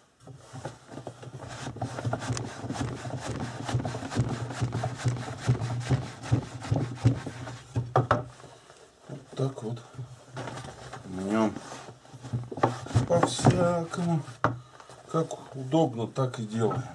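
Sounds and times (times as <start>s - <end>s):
wooden knocking and rubbing: 0.2s - 14.7s.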